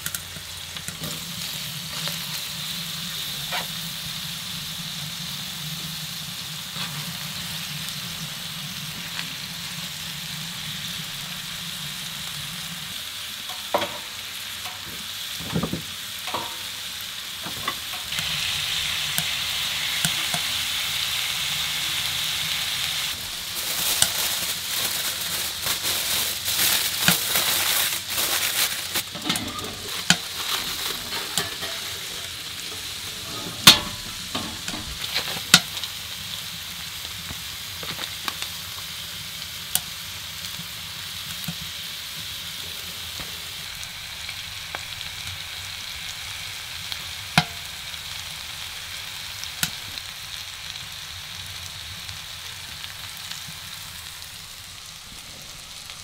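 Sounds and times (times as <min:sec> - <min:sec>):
food sizzling in a skillet: 0:00.0 - 0:56.0.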